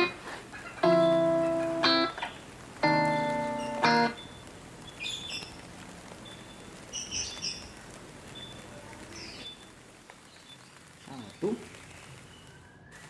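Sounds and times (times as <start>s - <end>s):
birds chirping: 0.0s - 13.0s
faint steady hiss: 0.0s - 13.0s.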